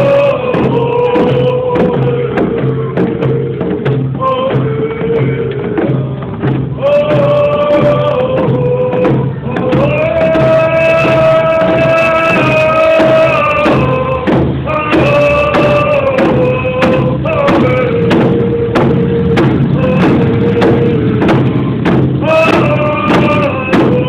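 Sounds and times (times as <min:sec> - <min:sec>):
hand drums beating: 0:00.0 - 0:24.0
men singing together: 0:00.0 - 0:24.0.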